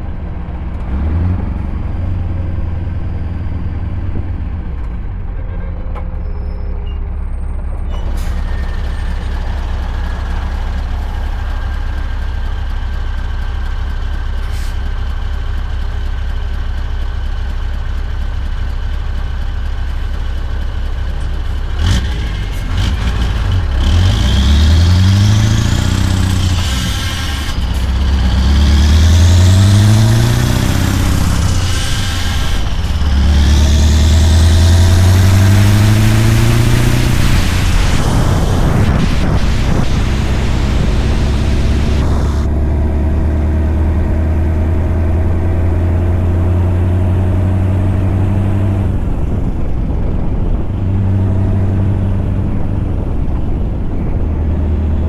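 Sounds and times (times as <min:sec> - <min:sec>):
truck engine accelerating: 0:00.0 - 0:55.0.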